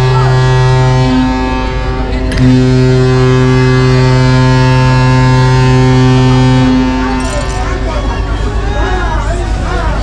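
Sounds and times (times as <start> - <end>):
ship horn blast: 0.0 - 9.7.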